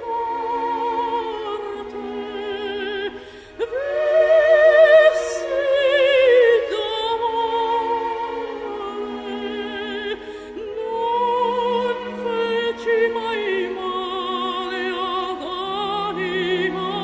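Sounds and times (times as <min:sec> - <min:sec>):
operatic high voice singing: 0:00.0 - 0:17.0
sustained accompaniment: 0:00.0 - 0:17.0.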